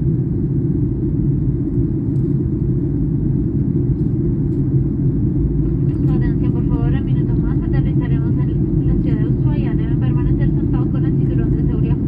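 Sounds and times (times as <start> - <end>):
airliner engines rumbling in cabin: 0.0 - 12.0.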